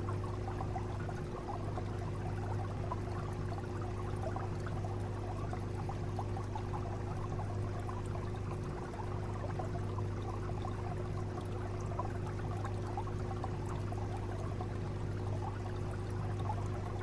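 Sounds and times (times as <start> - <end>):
low pump hum: 0.0 - 17.0
water trickling and bubbling: 0.0 - 17.0.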